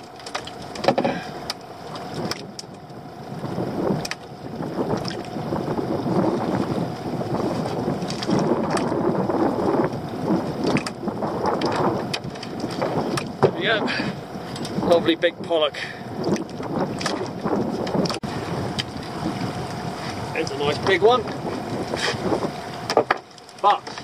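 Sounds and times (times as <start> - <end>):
water sloshing against boat hull: 0.0 - 24.0
wind on microphone: 0.0 - 24.0.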